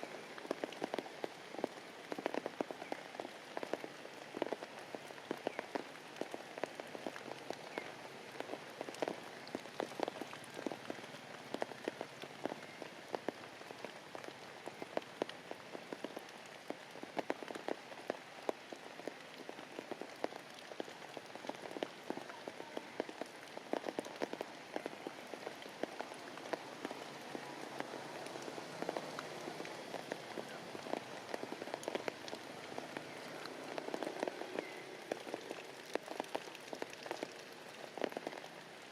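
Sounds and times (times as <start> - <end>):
heavy rain falling: 0.0 - 38.9
raindrops striking nearby surfaces: 0.0 - 38.9.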